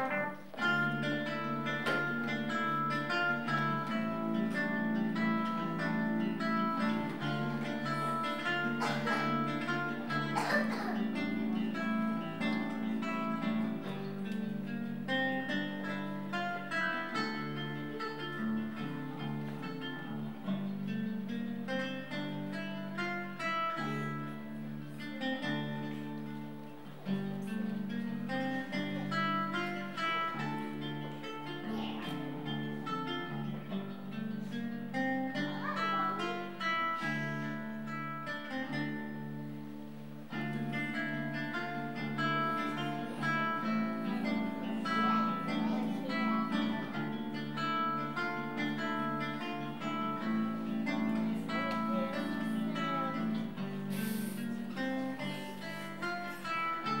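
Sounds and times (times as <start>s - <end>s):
plucked-string notes: 0.0s - 57.0s.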